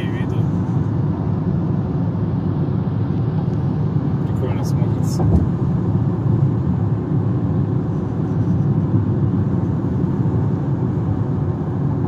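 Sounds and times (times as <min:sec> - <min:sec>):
car engine: 0:00.0 - 0:12.0
tyre and road noise: 0:00.0 - 0:12.0.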